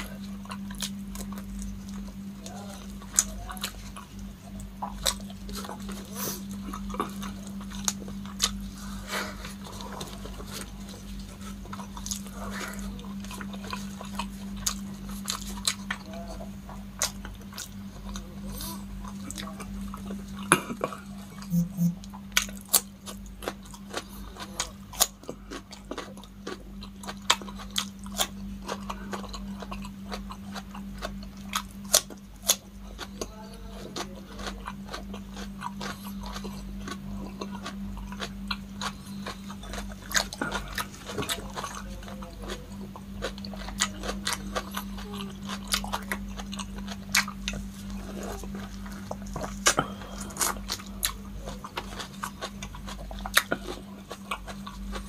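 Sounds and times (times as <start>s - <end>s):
steady low hum: 0.0s - 55.0s
wet chewing: 0.0s - 55.0s
crunching cucumber bites: 9.3s - 55.0s.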